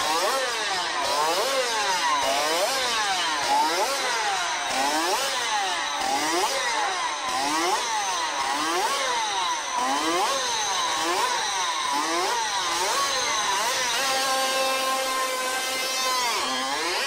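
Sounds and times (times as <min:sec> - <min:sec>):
two-stroke racing engine revving: 0:00.0 - 0:17.0.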